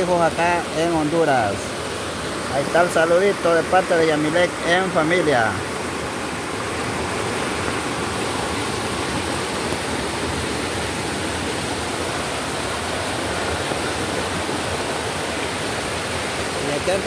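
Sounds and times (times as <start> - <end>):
river rushing over rapids: 0.0 - 17.0.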